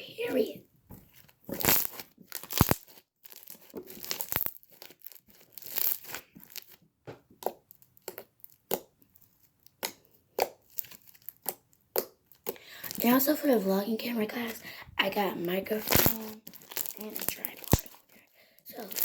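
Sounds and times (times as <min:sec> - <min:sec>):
slime crackling and popping: 0:01.1 - 0:19.0.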